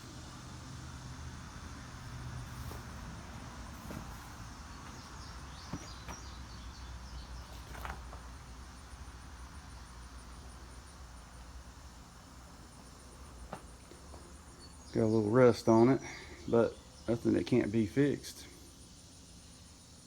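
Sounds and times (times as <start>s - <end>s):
faint insect chirping: 0.0s - 20.0s
steady low hum: 0.0s - 20.0s.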